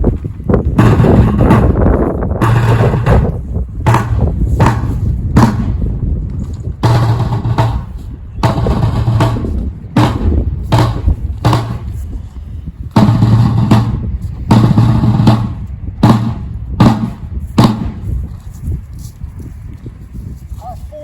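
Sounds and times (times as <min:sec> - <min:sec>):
wind rumbling on microphone: 0:00.0 - 0:21.0
drum beaten slowly: 0:00.6 - 0:06.1, 0:06.7 - 0:18.2.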